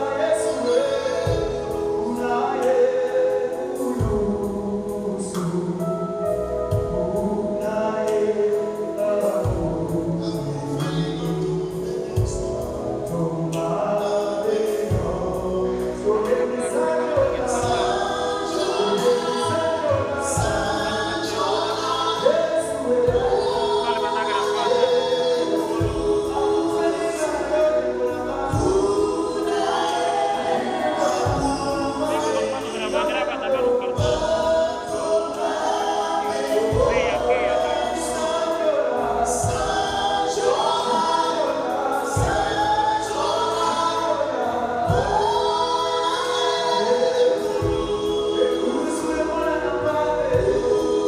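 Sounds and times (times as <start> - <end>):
gospel choir singing: 0.0 - 51.0
lead singer on microphone: 0.0 - 51.0.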